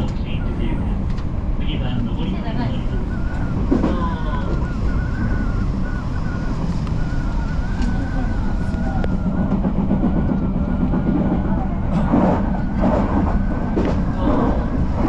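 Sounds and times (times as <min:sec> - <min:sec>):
high wavering whine: 0:00.0 - 0:15.0
train low rumble: 0:00.0 - 0:15.0.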